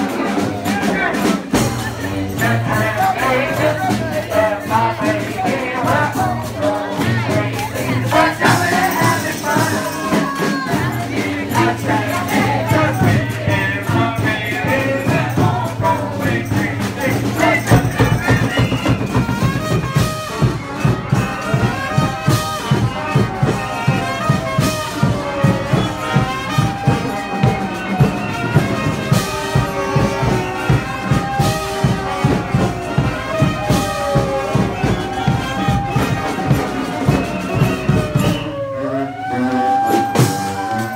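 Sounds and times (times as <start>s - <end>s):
fast steady drumbeat: 0.0s - 38.6s, 39.9s - 40.9s
horns playing sliding melody: 0.0s - 40.9s.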